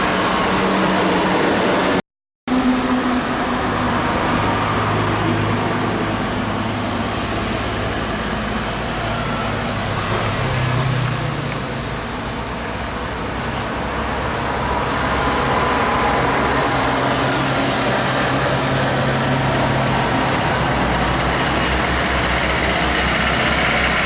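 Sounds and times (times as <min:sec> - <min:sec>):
truck engine drone: 0:00.0 - 0:24.0
tyres hissing on wet road: 0:00.0 - 0:24.0.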